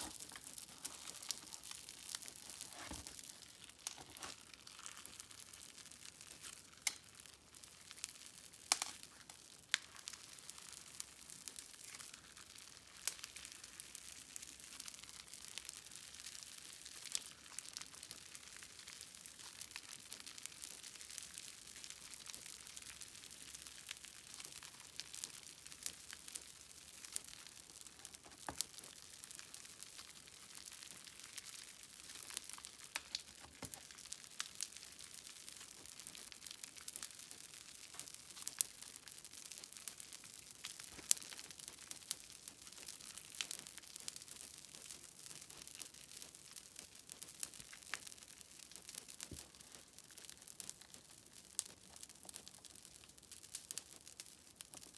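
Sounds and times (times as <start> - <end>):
slime crackling and popping: 0.0 - 54.9.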